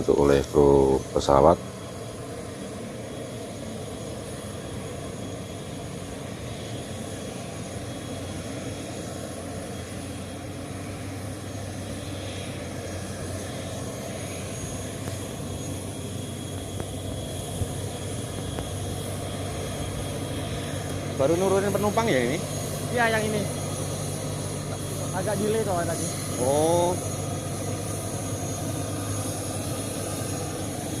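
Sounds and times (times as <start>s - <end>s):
turboprop engine drone: 0.0s - 31.0s.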